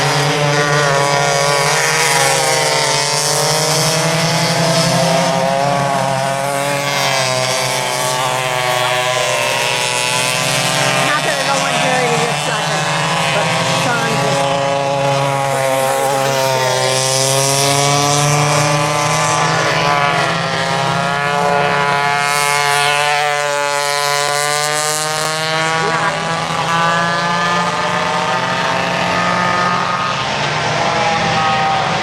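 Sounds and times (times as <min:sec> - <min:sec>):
go-kart engines racing: 0:00.0 - 0:32.0.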